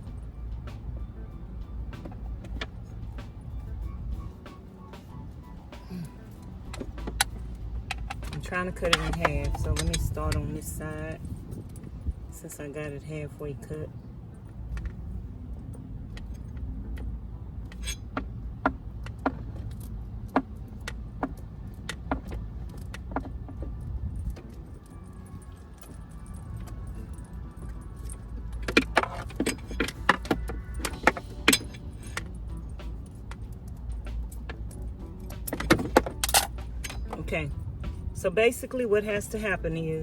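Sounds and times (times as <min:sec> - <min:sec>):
low steady rumble: 0:00.0 - 0:40.0.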